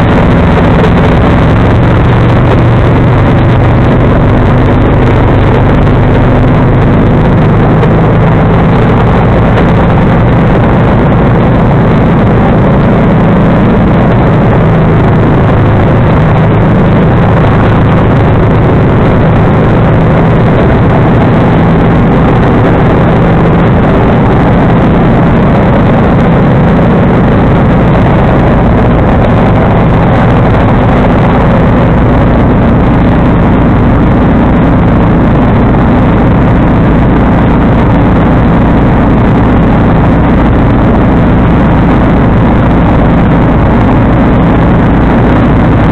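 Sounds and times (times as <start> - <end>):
lawn tractor engine running: 0.0 - 45.9.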